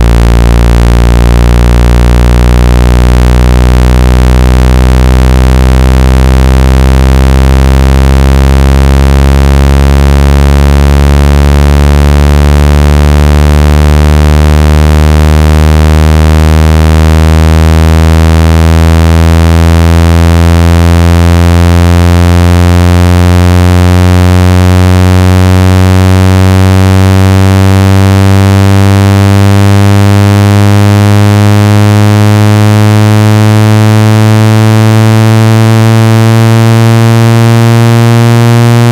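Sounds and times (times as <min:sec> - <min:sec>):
buzzy low tone rising in pitch: 0:00.0 - 0:38.9.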